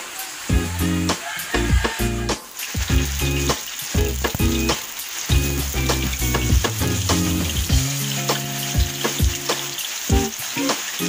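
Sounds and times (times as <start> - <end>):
fritters sizzling in hot oil: 0.0 - 11.0
background music with beat: 0.5 - 11.0.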